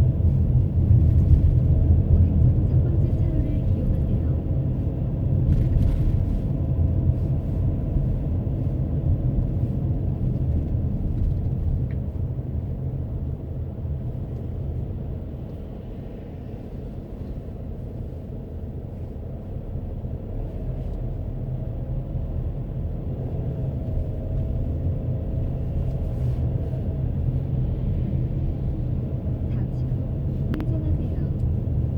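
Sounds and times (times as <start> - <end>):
car road and engine rumble: 0.0 - 31.9.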